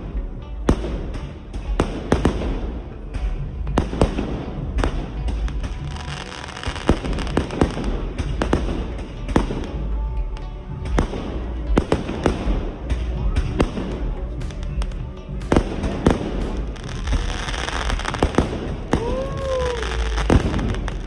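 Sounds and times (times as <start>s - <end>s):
firecrackers banging: 0.0s - 21.0s.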